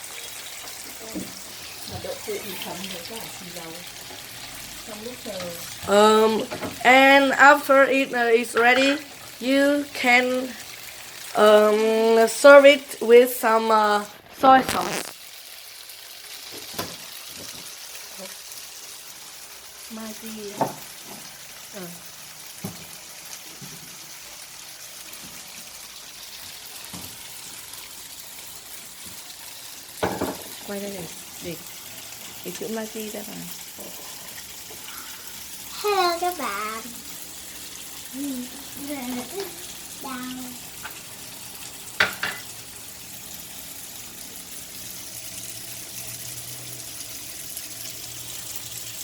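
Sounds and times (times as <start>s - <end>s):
tofu sizzling in oil: 0.0s - 49.0s.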